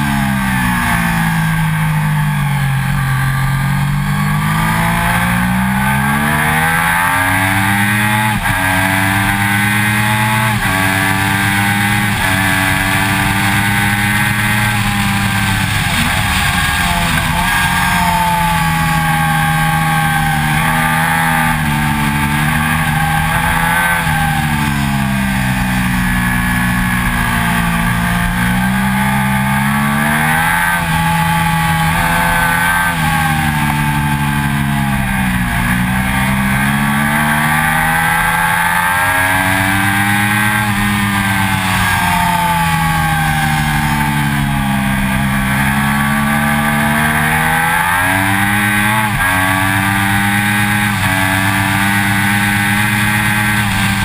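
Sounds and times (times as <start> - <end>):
motorcycle engine at high revs: 0.0 - 54.0
wind and road noise: 0.0 - 54.0.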